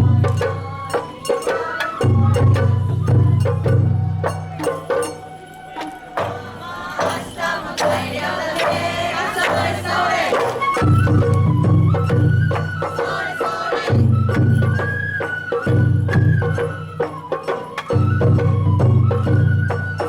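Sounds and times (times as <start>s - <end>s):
bamboo flute melody: 0.0s - 20.0s
taiko drums: 0.0s - 20.0s.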